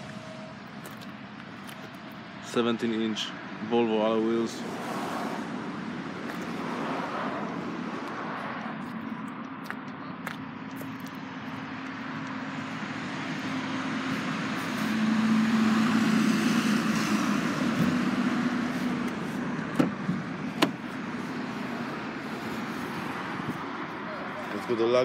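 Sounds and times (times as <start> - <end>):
vehicle passing: 4.1 - 25.0.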